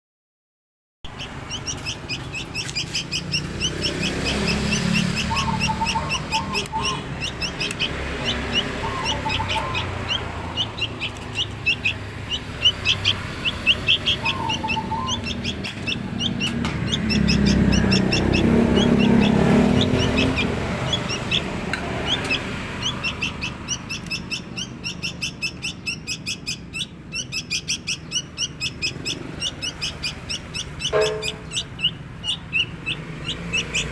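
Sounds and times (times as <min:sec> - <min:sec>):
baby songbirds chirping: 0:01.1 - 0:33.9.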